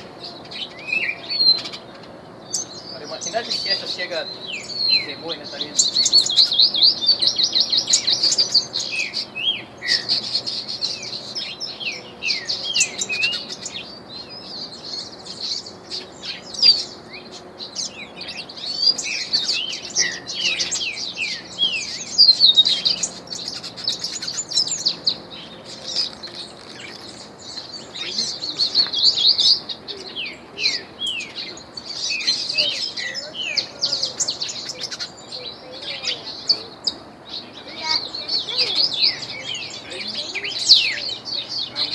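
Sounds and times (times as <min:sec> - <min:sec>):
bird singing trills and whistles: 0:00.0 - 0:41.9.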